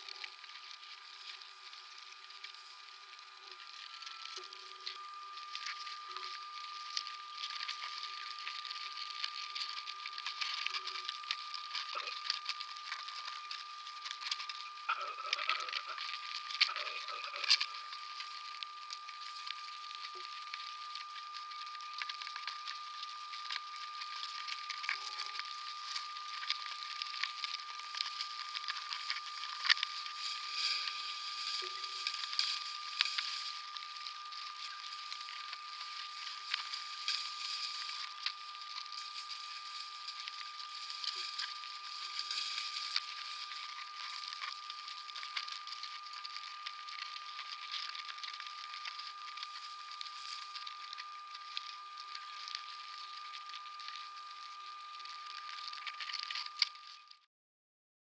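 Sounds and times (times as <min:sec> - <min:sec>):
microphone hiss: 0:00.0 - 0:57.1
constant high whine: 0:00.0 - 0:57.3
small clicks and crackles: 0:00.0 - 0:57.3.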